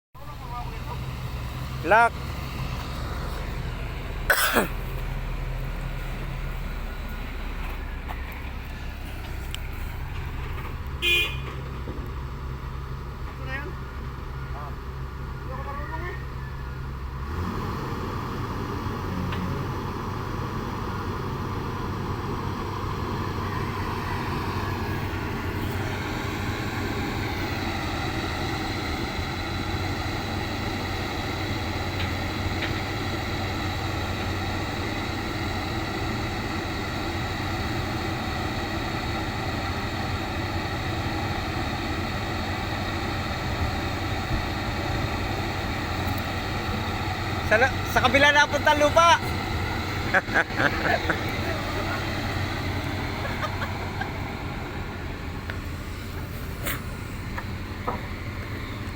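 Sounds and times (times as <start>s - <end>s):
diesel engine revving up: 0.2s - 58.9s.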